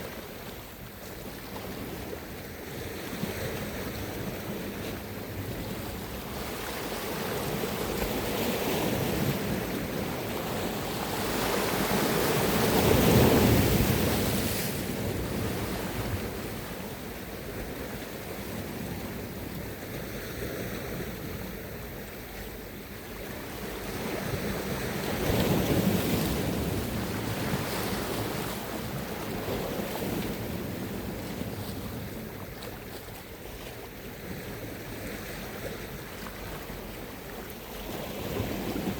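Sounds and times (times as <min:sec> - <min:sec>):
sea waves washing onto shore: 0:00.0 - 0:38.9
wind buffeting microphone: 0:01.0 - 0:38.9.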